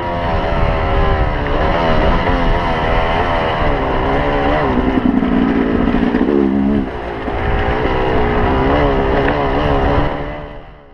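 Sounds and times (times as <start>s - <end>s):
dirt bike engine revving: 0.0s - 10.8s.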